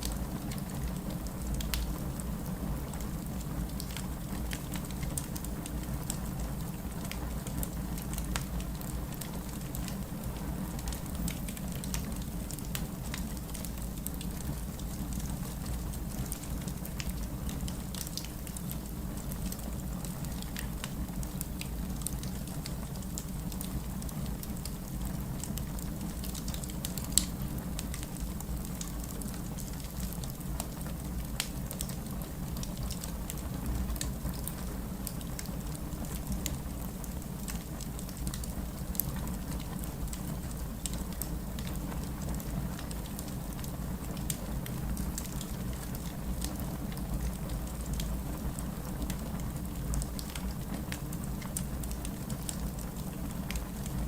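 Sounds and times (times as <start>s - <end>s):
steady rain: 0.0s - 54.0s
wood fire crackling and popping: 0.0s - 54.0s.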